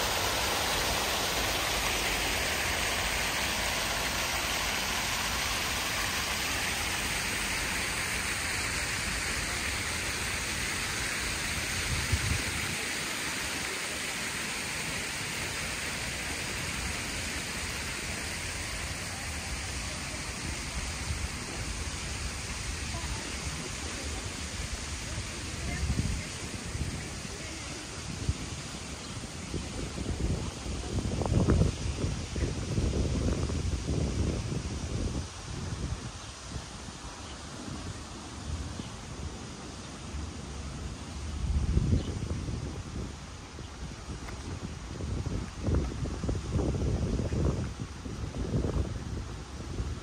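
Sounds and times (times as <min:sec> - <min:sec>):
fountain water splashing into pool: 0:00.0 - 0:50.0.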